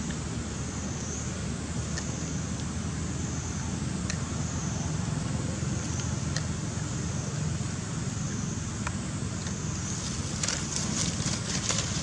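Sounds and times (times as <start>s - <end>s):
distant traffic rumble: 0.0s - 12.0s.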